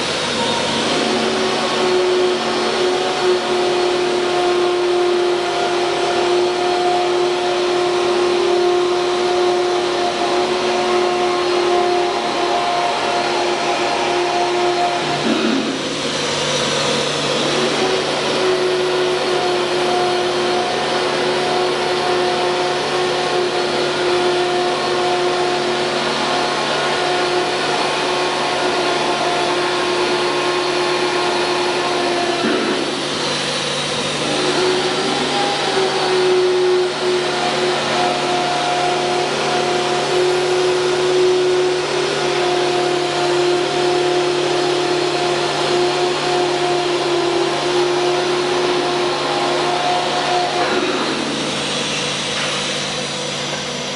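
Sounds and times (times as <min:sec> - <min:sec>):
mechanical hum: 0:00.0 - 0:53.9
router spindle whine: 0:00.0 - 0:53.9.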